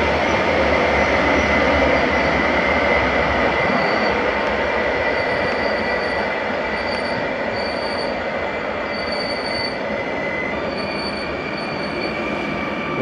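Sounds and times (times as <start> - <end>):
train motor whine: 0.0 - 13.0
high wheel squeal: 0.2 - 13.0.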